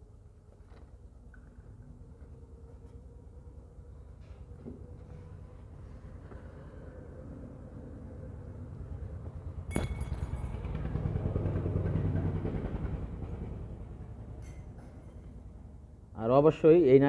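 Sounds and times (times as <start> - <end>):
engine running: 1.7 - 16.0.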